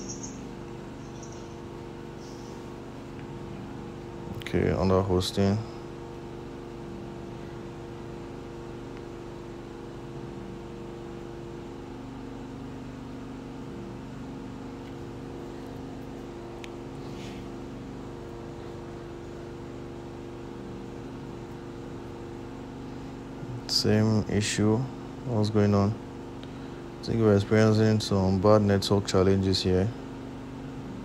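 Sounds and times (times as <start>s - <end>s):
steady hum with tones: 0.0s - 31.0s.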